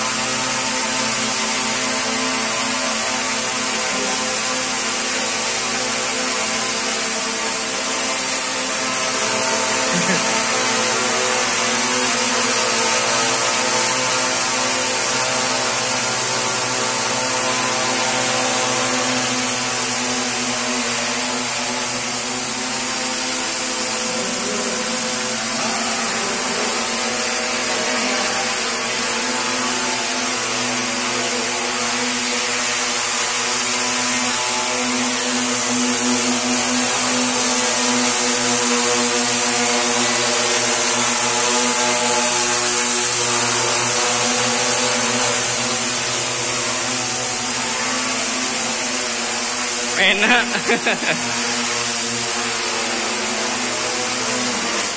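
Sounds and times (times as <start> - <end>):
quadcopter motors humming: 0.0 - 54.9.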